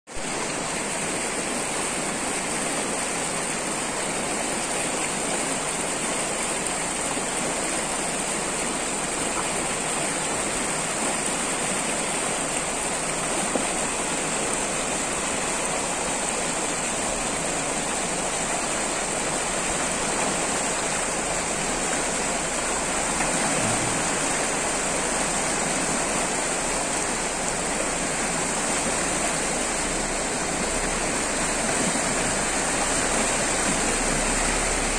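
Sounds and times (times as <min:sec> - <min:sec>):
river rushing over stones: 0:00.1 - 0:34.9.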